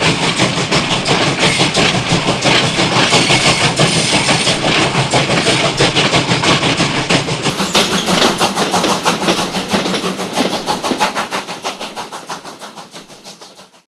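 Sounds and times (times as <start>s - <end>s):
steam train running: 0.0s - 13.9s.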